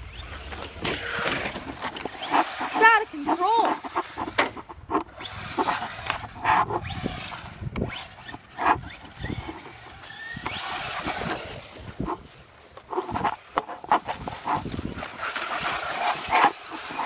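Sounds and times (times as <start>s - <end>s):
toy car motor whine: 0.0s - 17.0s
tyres scrabbling over ground: 0.0s - 17.0s
toy car knocking and clattering: 0.1s - 12.2s, 12.8s - 17.0s.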